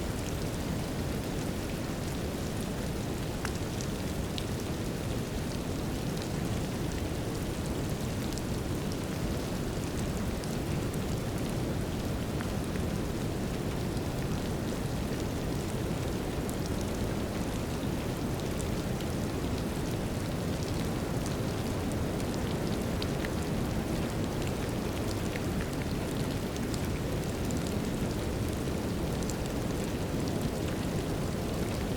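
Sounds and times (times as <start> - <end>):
brown noise hiss: 0.0 - 31.9.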